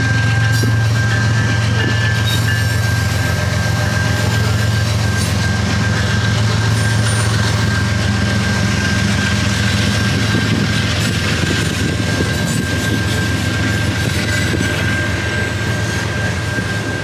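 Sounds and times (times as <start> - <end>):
high-pitched steady tone: 0.0 - 17.0
locomotive engine drone: 0.0 - 17.0
train rolling noise: 0.0 - 17.0.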